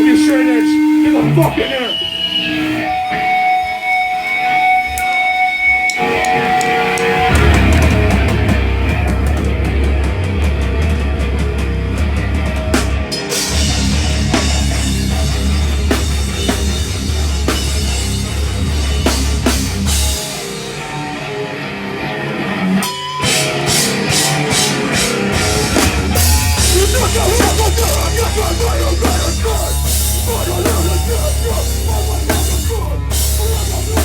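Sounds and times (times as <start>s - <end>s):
distorted guitar: 0.0s - 34.0s
heavy rock band playing: 0.0s - 34.0s
pounding drum kit: 5.8s - 21.9s, 22.7s - 34.0s.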